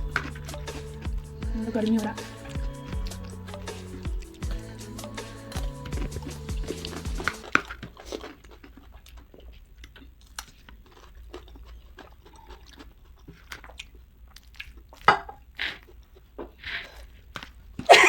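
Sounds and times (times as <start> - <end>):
crunchy snack chewing: 0.0 - 17.8.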